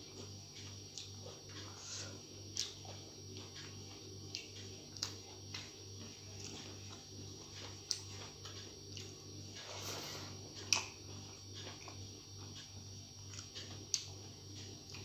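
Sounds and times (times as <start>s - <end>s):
steady low hum: 0.0s - 15.0s
person chewing: 0.1s - 15.0s.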